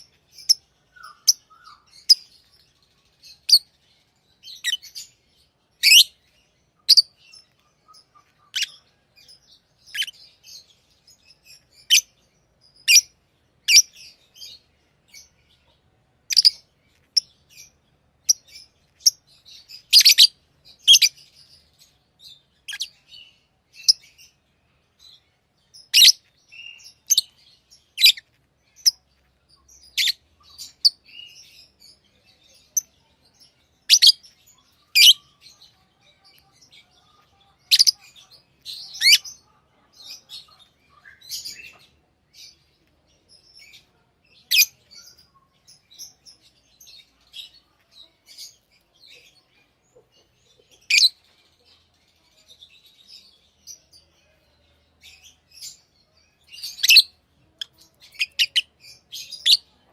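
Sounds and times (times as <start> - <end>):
lovebirds chirping: 0.0 - 59.9
soft bird twittering: 0.0 - 59.9.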